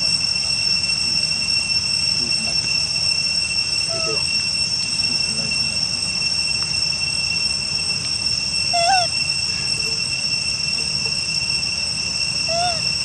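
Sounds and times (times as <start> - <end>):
high-pitched drone: 0.0 - 13.0.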